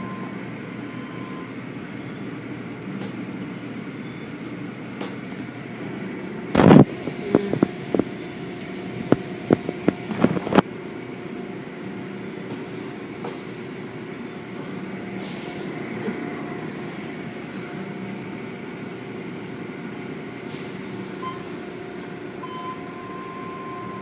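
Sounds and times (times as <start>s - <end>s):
car wash machinery hum: 0.0s - 24.0s.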